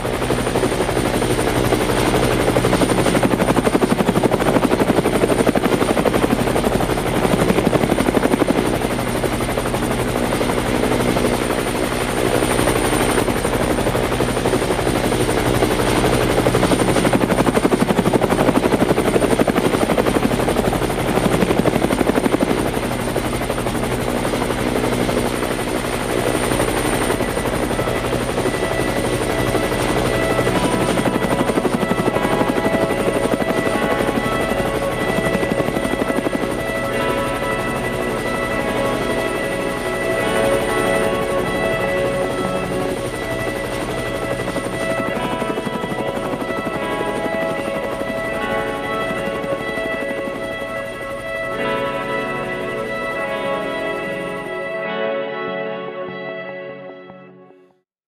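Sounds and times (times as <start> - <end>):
helicopter rotor chop: 0.0 - 54.9
high steady whine: 0.0 - 54.9.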